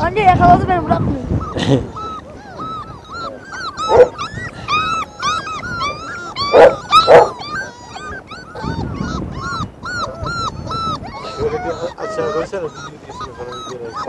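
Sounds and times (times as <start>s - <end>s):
puppies whining and crying: 0.0s - 14.0s
puppy yelps: 1.3s - 14.0s.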